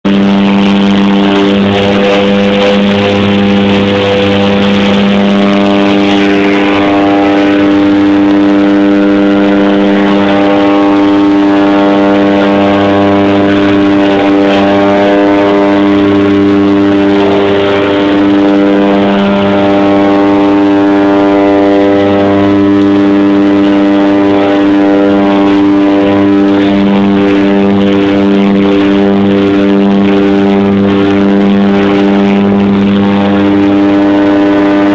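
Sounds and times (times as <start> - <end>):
turboprop engines droning: 0.0 - 34.9.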